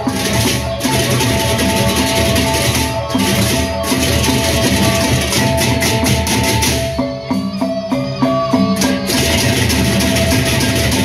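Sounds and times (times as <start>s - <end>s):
barrel drums: 0.0s - 11.0s
clashing cymbals: 0.0s - 11.0s
small gongs: 0.0s - 11.0s.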